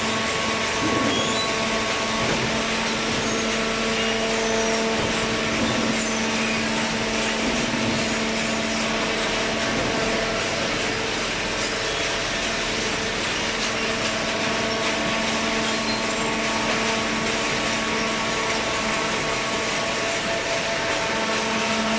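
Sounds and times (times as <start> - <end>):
baler machine hum and whine: 0.0 - 21.9.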